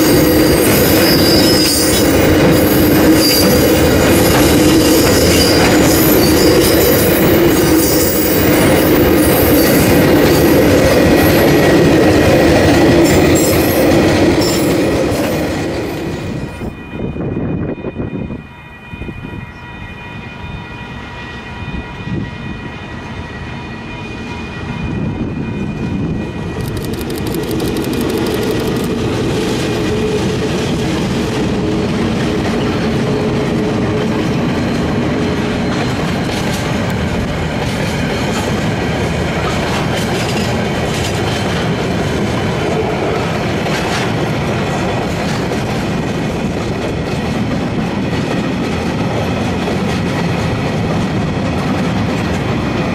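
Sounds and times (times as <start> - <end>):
diesel locomotive passing: 0.0 - 52.9.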